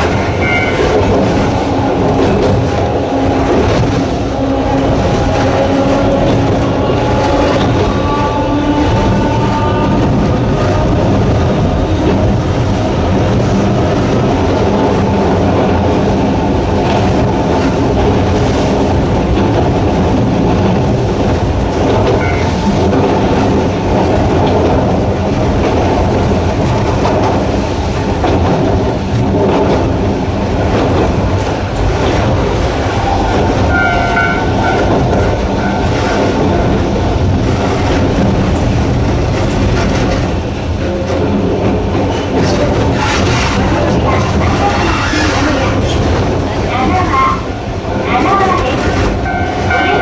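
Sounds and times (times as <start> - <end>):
wheels clacking over rail joints: 0.0 - 50.0.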